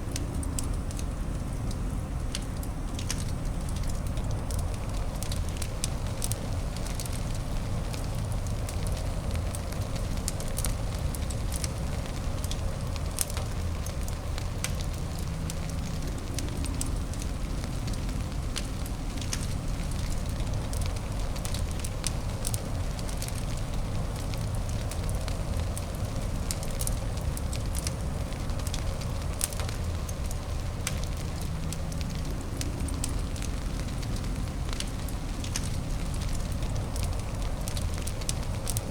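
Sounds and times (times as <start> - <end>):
fire crackling and popping: 0.0 - 38.9
fire low rumble and hiss: 0.0 - 38.9.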